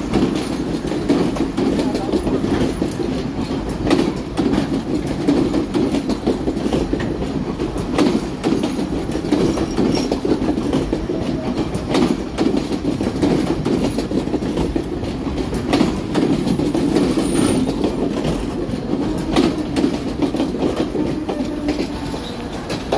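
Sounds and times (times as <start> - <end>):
train rumbling: 0.0 - 22.9
wheels clacking over rail joints: 0.0 - 22.9.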